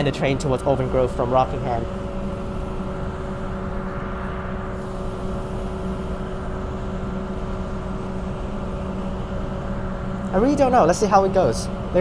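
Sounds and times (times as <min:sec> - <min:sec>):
electric traction hum: 0:00.0 - 0:12.0.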